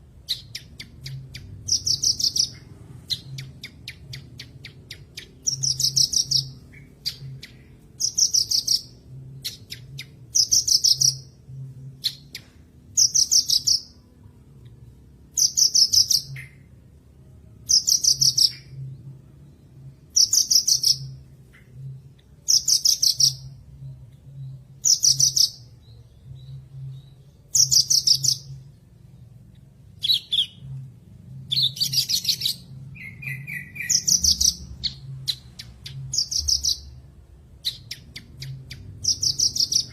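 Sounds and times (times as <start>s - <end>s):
bird singing buzzy trills: 0.0s - 39.9s.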